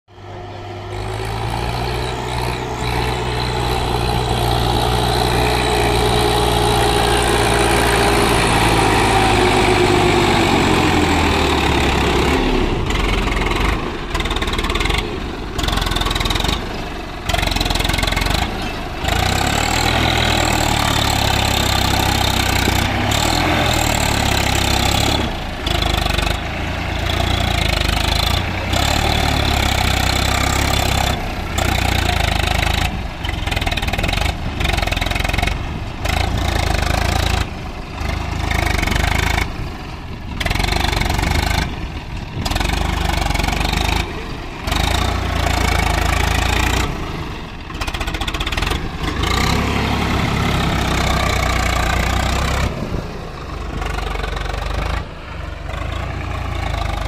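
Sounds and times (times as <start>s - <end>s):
tractor diesel engine running hard: 0.1s - 57.0s.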